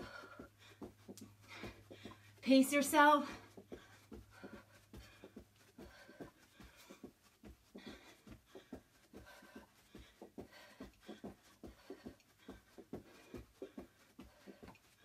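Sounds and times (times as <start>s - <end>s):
sneakered feet thudding on a rug: 0.0s - 15.0s.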